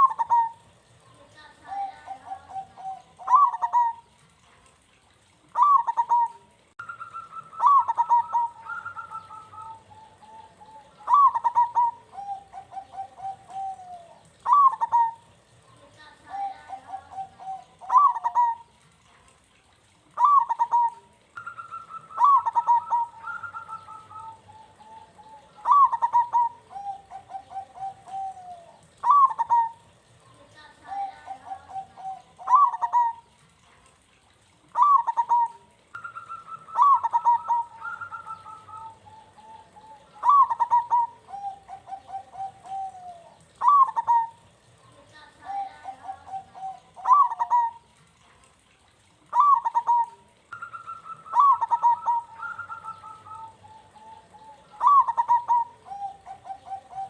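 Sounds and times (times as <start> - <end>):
dove cooing song: 0.0 - 57.0.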